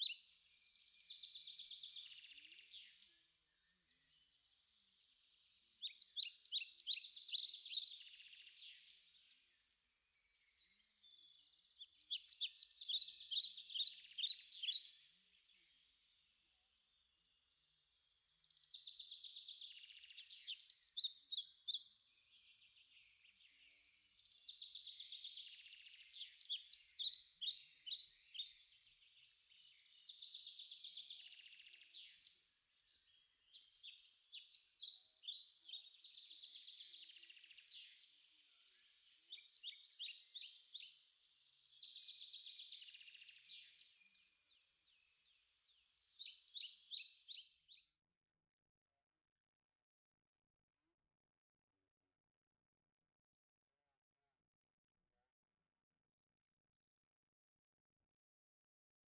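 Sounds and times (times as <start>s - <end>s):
bird chirping: 0.0s - 47.8s.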